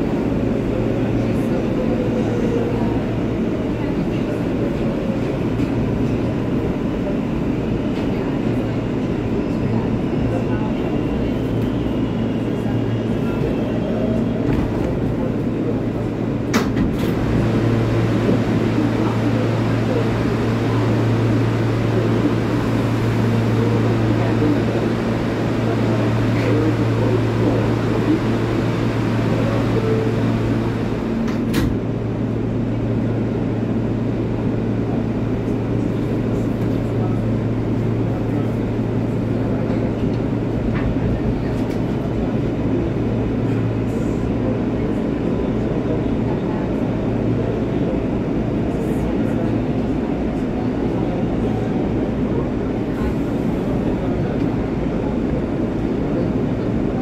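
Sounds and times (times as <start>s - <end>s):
subway car low hum: 0.0s - 57.0s
subway car pulling out: 0.0s - 57.0s.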